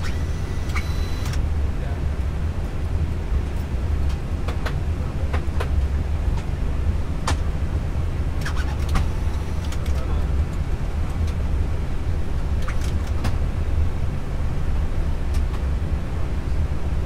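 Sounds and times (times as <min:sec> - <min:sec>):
airliner cockpit rumble: 0:00.0 - 0:17.0.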